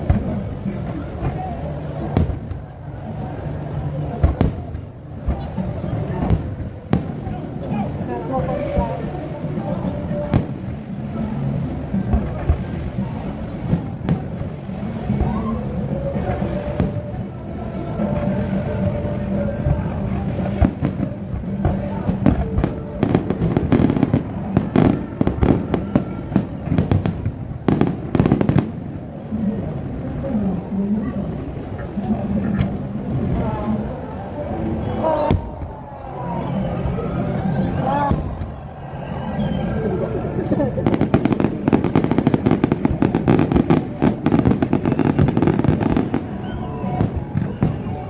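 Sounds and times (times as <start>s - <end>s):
fireworks bursts and bangs: 0.0s - 48.0s.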